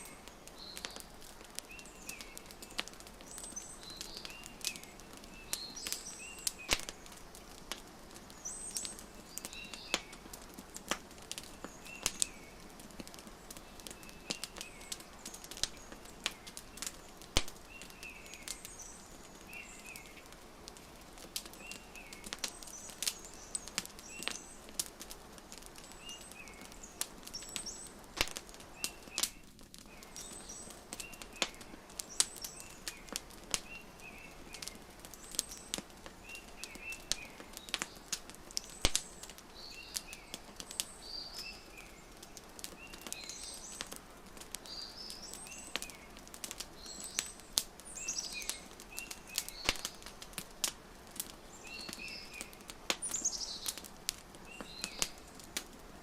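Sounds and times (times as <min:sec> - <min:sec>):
small birds chirping: 0:00.0 - 0:56.0
wood fire crackling and popping: 0:00.0 - 0:56.0.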